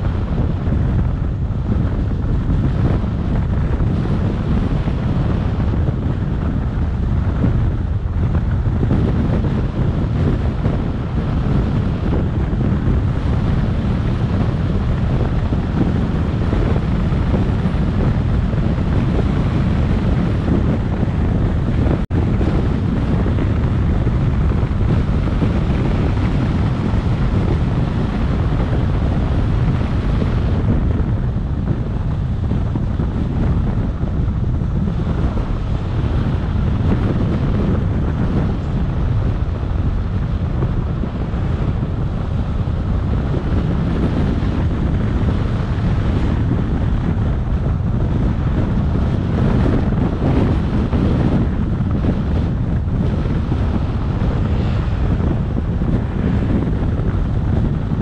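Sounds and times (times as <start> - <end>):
road noise: 0.0 - 58.0
wind rumble on microphone: 0.0 - 58.0.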